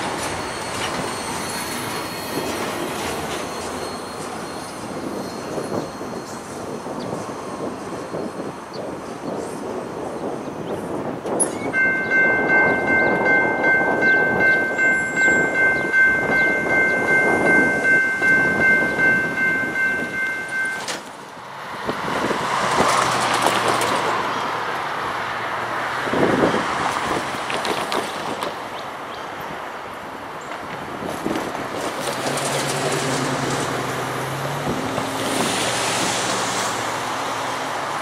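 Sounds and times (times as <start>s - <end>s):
passing train rumble: 0.0s - 38.0s.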